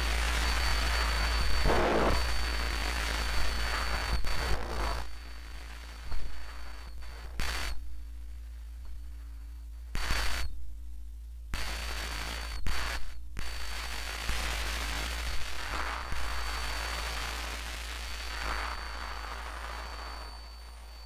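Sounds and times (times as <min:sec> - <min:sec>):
low electrical hum: 0:00.0 - 0:21.0
static hiss: 0:00.0 - 0:21.0.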